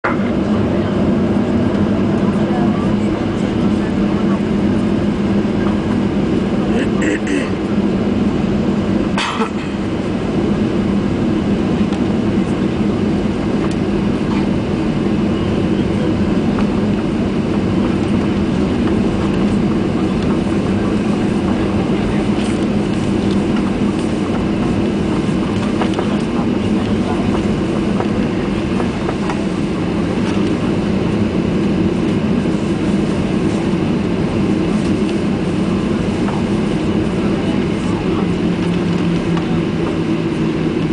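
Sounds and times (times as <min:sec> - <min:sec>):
airplane cabin engine hum: 0:00.0 - 0:40.9.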